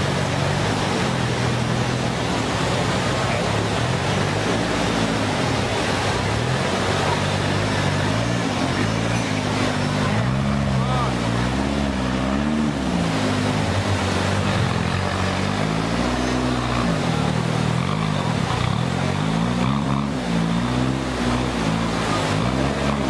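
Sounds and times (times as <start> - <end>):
engine revving: 0.0 - 23.0
steady rushing noise: 0.0 - 23.0.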